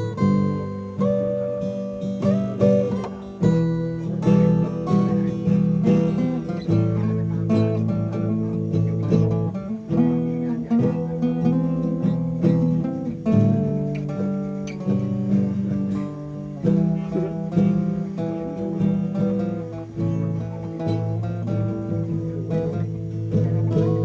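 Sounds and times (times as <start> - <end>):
guitar chords strummed: 0.0 - 24.0.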